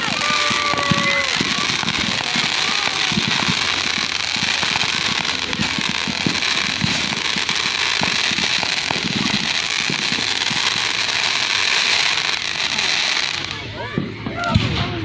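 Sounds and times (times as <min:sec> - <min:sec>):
fireworks popping and banging: 0:00.0 - 0:15.0.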